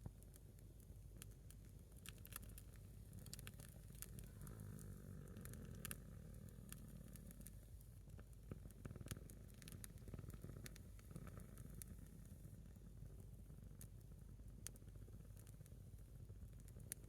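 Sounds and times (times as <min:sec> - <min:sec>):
burning log crackling: 0:00.1 - 0:17.0
low steady rumble: 0:01.0 - 0:17.0.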